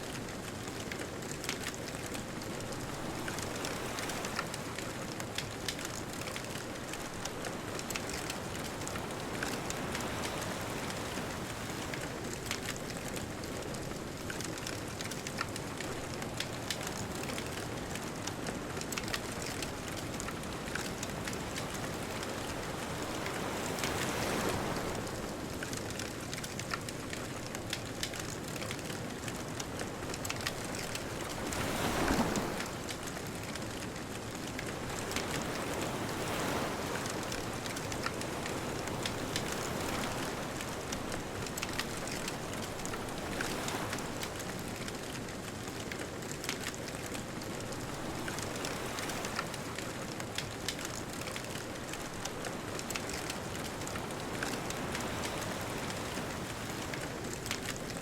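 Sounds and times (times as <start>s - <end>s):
bonfire crackling and popping: 0.0s - 58.0s
distant ocean waves breaking: 0.0s - 58.0s.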